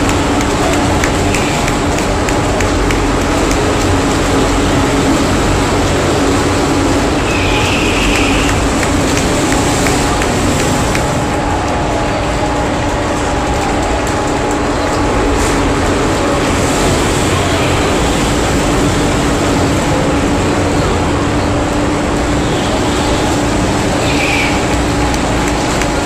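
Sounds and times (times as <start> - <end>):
crowd noise: 0.0 - 26.0
go-kart engines running: 0.0 - 26.0.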